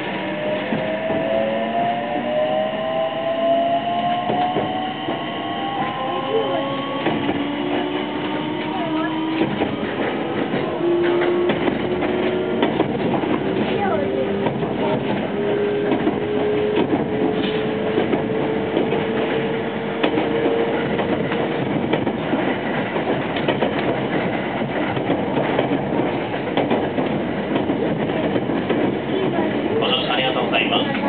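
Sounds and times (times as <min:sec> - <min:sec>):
rail clacks: 0:00.0 - 0:31.0
train wheels on rails: 0:00.0 - 0:31.0.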